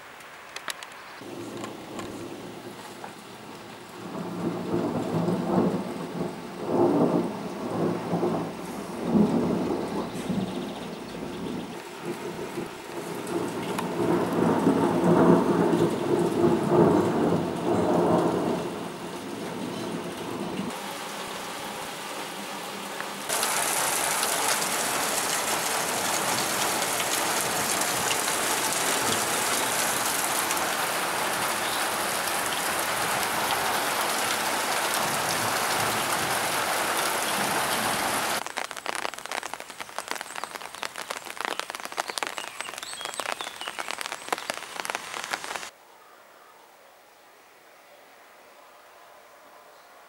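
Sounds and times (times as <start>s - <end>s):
sharp raindrop hits: 0.0s - 21.7s, 23.3s - 45.7s
heavy rain on muddy ground: 0.0s - 45.8s.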